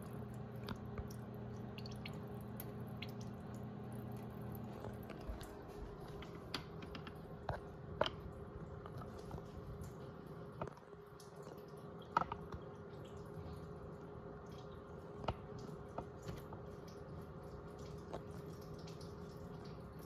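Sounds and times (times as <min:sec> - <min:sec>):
water dripping and sloshing: 0:00.0 - 0:20.0.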